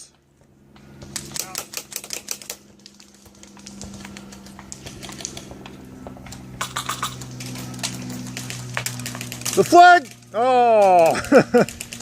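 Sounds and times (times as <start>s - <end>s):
steady low hum: 0.0s - 12.0s
airsoft guns firing: 1.0s - 5.6s, 6.6s - 12.0s.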